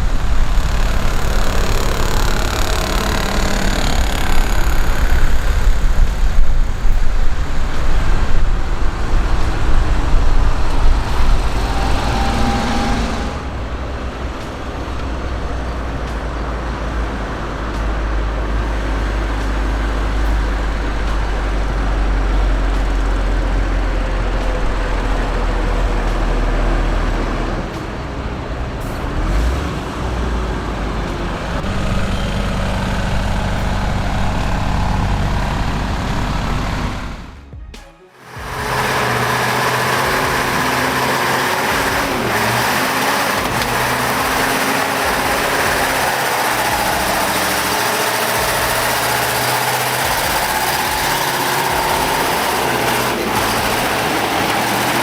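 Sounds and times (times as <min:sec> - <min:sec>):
heavy truck engine rumble: 0:00.0 - 0:55.0
road noise: 0:00.0 - 0:55.0.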